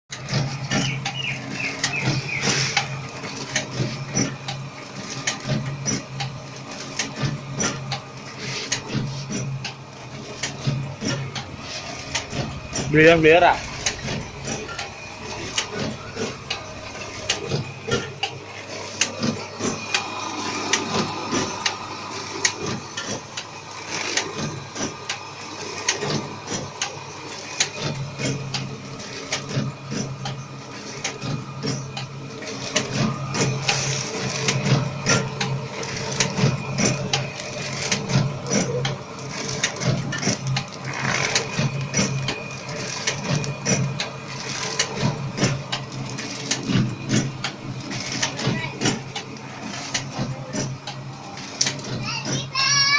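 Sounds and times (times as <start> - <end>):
machine low hum: 0.1 - 52.9
rapid mechanical clicks: 0.1 - 52.9.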